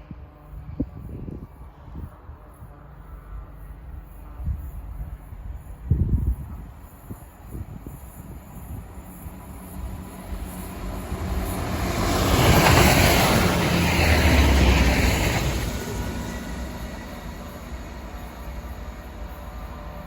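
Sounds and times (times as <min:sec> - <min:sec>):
train passing with deep rumble: 0:00.0 - 0:20.0.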